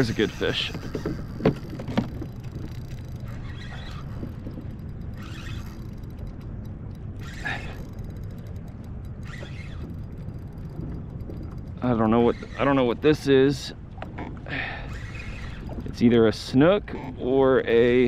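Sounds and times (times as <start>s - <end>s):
fishing reel clicks: 0.0s - 13.6s, 14.8s - 18.0s
fishing reel noise: 0.0s - 13.8s, 14.6s - 18.0s
water noise: 0.0s - 18.0s
wind: 0.0s - 18.0s.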